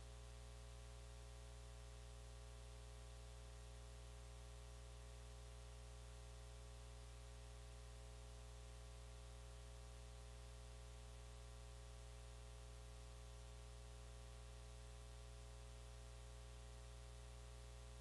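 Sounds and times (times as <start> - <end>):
faint low hum with hiss: 0.0 - 18.0.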